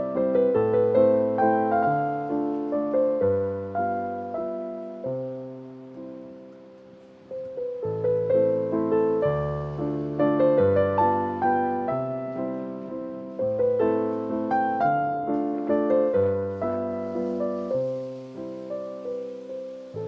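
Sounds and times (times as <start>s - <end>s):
slow solo piano music: 0.0s - 20.0s.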